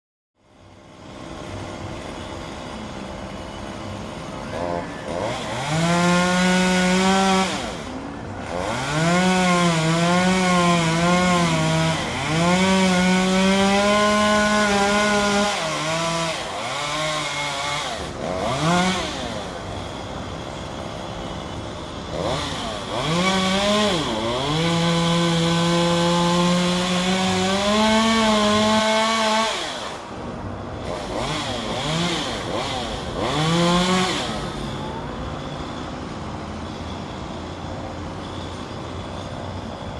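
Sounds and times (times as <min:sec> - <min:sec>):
chainsaw cutting branches: 0:00.8 - 0:35.8.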